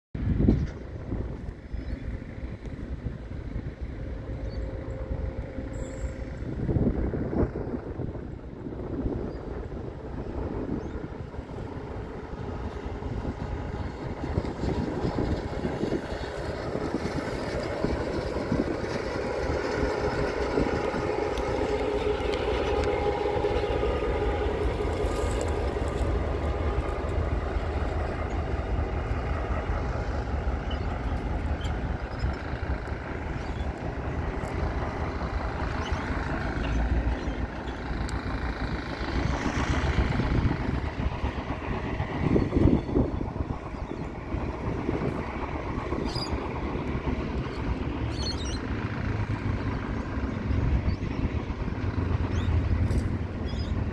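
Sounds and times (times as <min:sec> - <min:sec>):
low rumble of train moving: 0:00.1 - 0:53.9
diesel locomotive chugging: 0:00.2 - 0:53.9.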